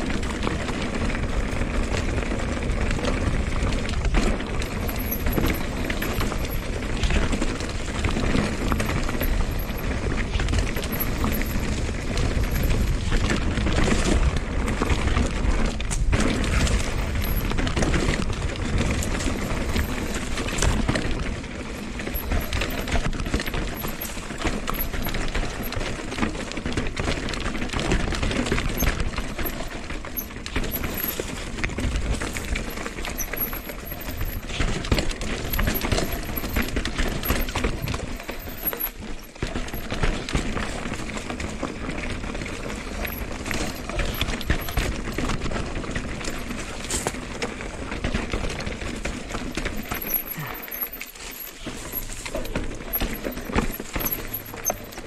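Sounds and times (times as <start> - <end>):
bike rattling and clicking: 0.0 - 55.0
bike tyres crunching over stones: 0.0 - 55.0.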